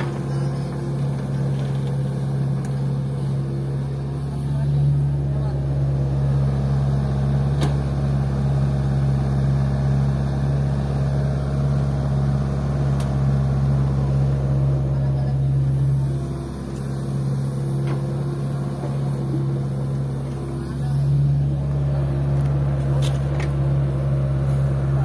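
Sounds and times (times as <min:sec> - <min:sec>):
diesel engine idling: 0:00.0 - 0:25.0
excavator high steady tone: 0:00.0 - 0:25.0.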